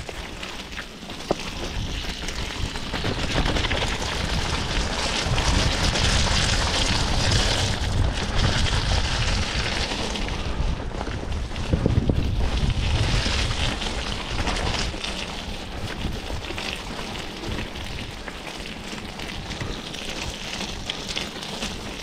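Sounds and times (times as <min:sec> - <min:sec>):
rushing wind: 0:00.0 - 0:22.0
vehicle low rumble: 0:00.0 - 0:22.0
wind buffeting microphone: 0:01.2 - 0:22.0.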